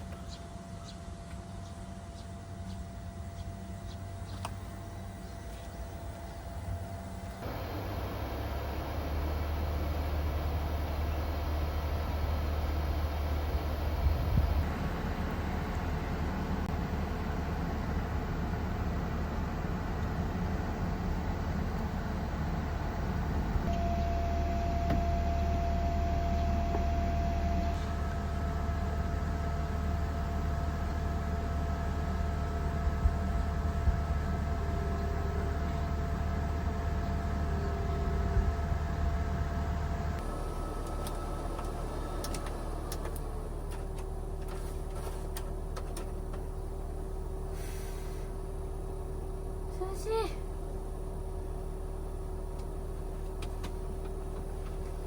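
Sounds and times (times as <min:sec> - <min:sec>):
low mechanical hum: 0:00.0 - 0:55.0
thin steady whine: 0:00.0 - 0:55.0.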